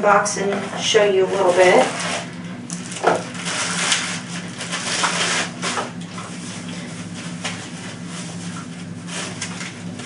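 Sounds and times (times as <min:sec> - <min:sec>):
steady low hum: 0:00.0 - 0:10.0
cardboard and plastic crinkling: 0:01.3 - 0:10.0.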